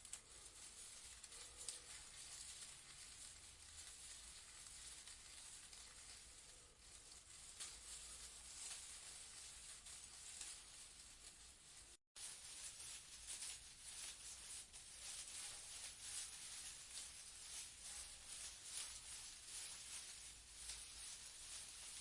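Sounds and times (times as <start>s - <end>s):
leaves rustling in a breeze: 0.0s - 22.0s.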